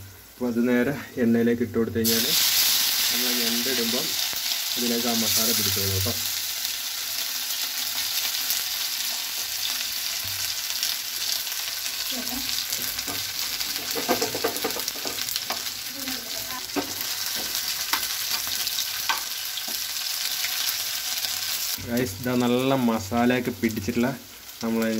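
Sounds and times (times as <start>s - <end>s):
aromatics sizzling in hot oil: 0.0s - 24.9s.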